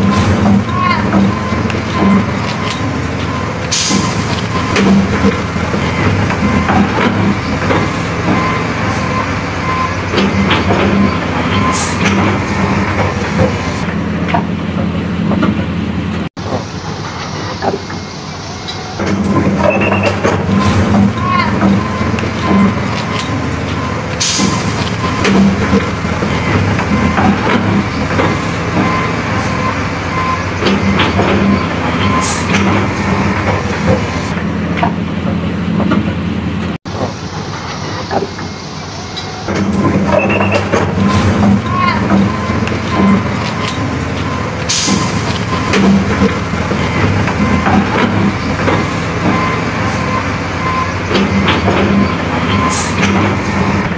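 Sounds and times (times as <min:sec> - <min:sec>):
diesel engine hum: 0:00.0 - 0:53.9.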